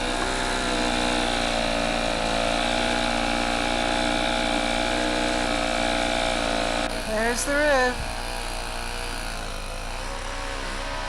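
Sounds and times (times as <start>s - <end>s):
snowblower engine under load: 0.0s - 11.0s.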